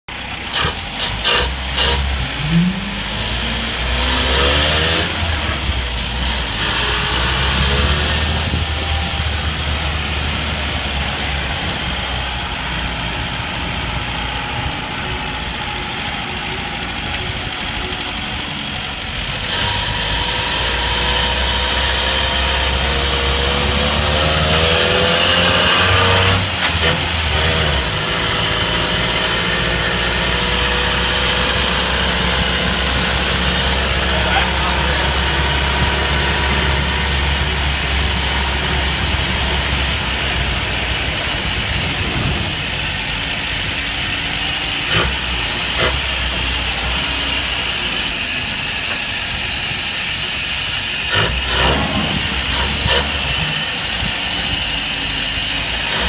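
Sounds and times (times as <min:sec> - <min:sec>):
van engine revving: 0:00.0 - 0:56.0.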